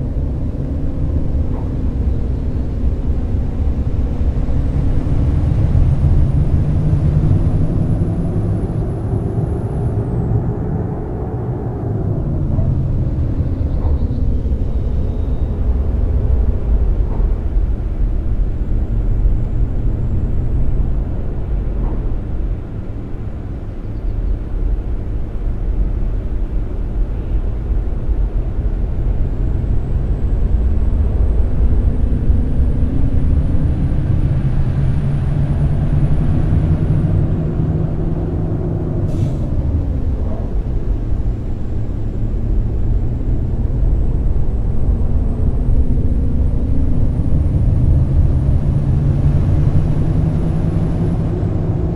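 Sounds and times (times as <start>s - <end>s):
bus diesel engine running: 0.0s - 51.9s
low road rumble: 0.0s - 51.9s.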